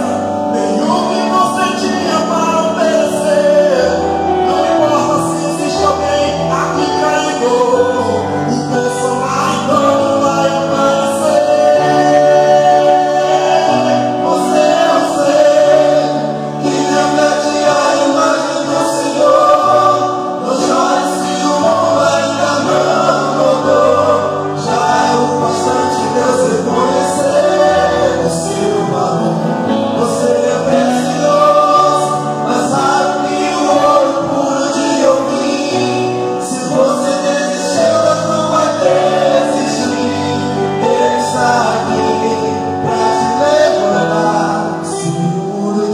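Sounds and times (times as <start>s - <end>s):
instrumental accompaniment: 0.0s - 45.9s
male group singing gospel: 0.0s - 45.9s.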